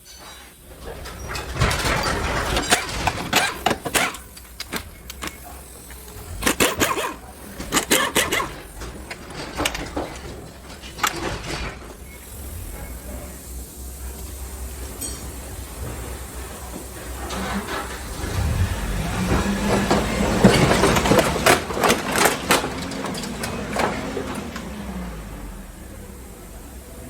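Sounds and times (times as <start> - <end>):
car parts clanking and rattling: 0.0 - 26.9.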